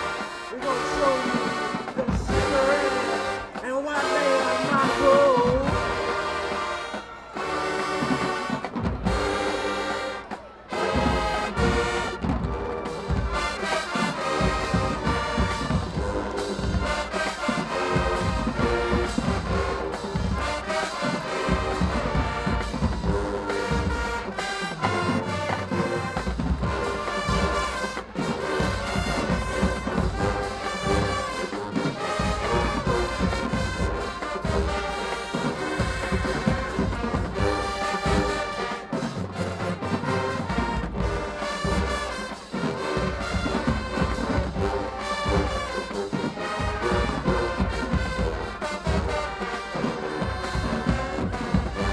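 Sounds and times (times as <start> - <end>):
heavy drum beat: 0.0 - 51.9
marching band brass: 0.0 - 51.9.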